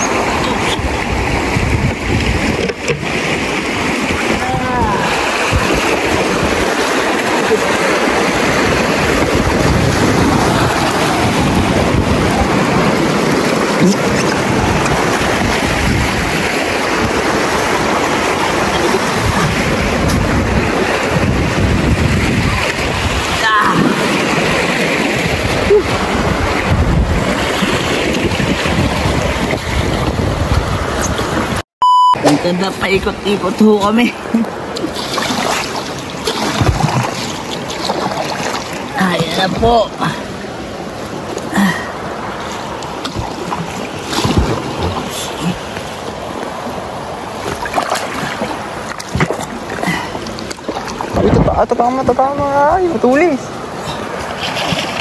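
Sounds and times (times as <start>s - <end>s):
river water rushing: 0.0s - 31.6s, 32.2s - 55.0s
wind buffeting microphone: 0.0s - 31.6s, 42.0s - 55.0s.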